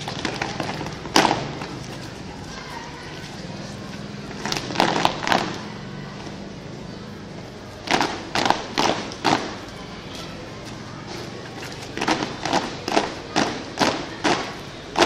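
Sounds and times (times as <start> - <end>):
children stamping feet on paving: 0.0 - 15.0.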